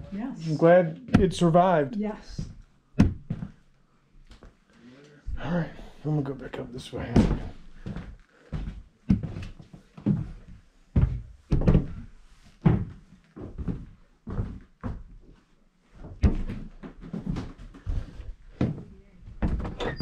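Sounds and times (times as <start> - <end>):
footsteps on wooden stairs: 0.0 - 3.6, 6.9 - 20.0.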